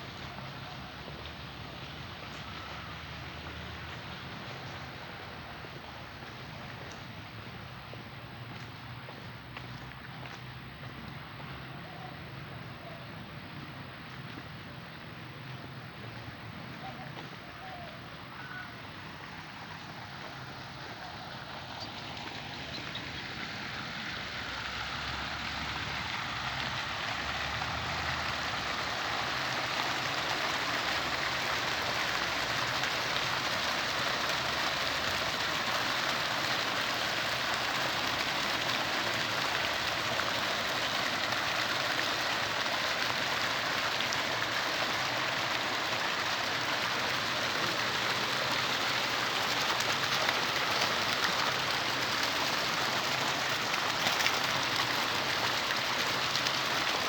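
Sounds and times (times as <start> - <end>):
rush of splashing water: 0.0 - 57.0.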